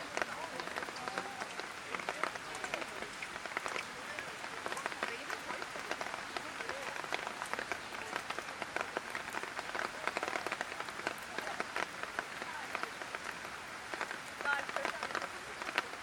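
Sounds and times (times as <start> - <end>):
light rain falling: 0.0 - 16.0
raindrop ticks and splats: 0.0 - 16.0.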